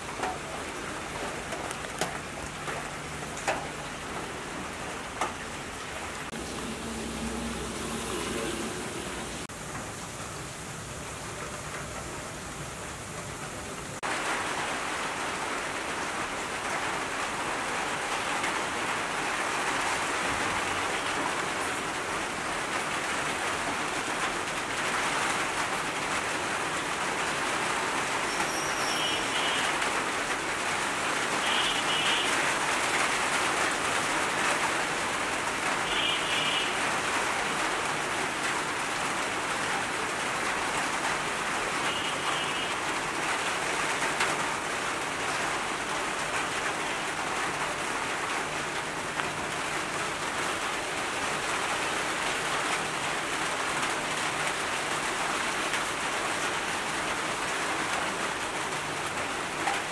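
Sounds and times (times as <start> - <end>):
rain falling on foliage: 0.0 - 59.9.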